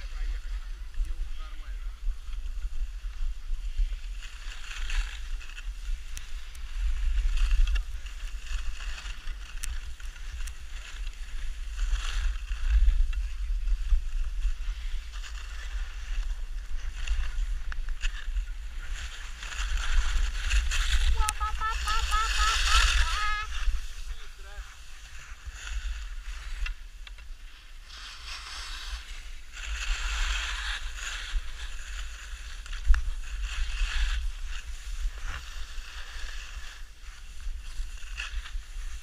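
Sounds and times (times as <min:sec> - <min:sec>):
skis scraping on snow: 0:00.0 - 0:39.0.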